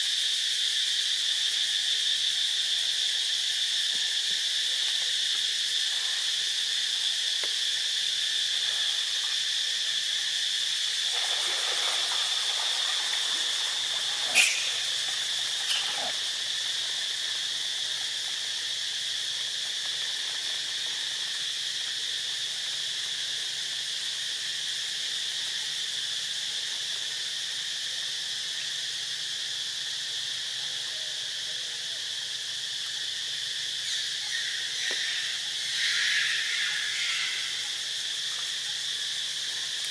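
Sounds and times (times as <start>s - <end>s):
insect chorus droning: 0.0s - 39.9s.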